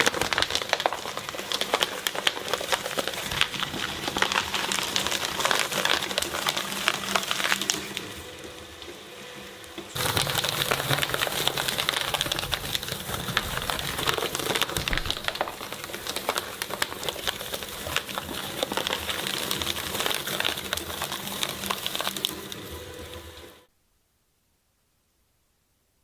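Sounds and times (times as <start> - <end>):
shredder crunching brittle item: 0.0 - 8.4, 9.9 - 23.5.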